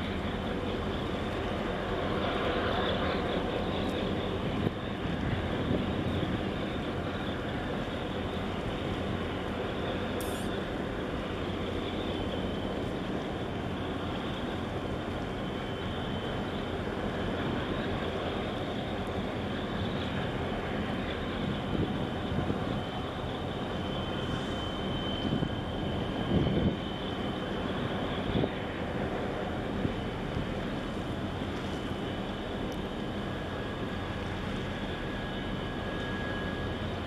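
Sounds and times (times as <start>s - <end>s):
low engine drone: 0.0s - 37.0s
wind: 0.0s - 37.0s.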